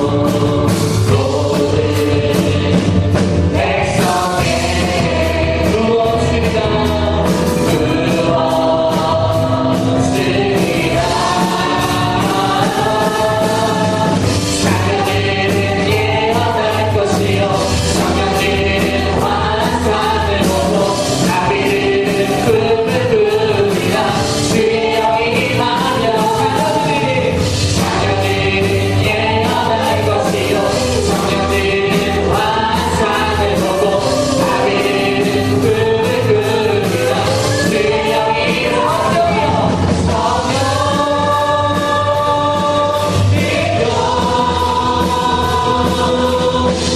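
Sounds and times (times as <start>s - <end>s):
band with steady beat: 0.0s - 46.9s
group singing worship song: 0.0s - 46.9s.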